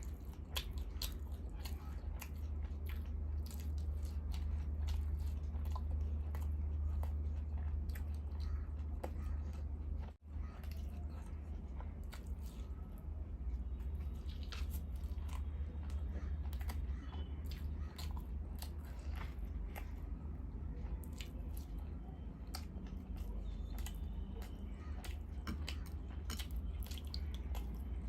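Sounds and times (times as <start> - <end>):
person chewing and crunching food: 0.0 - 28.0
steady low hum: 0.0 - 28.0.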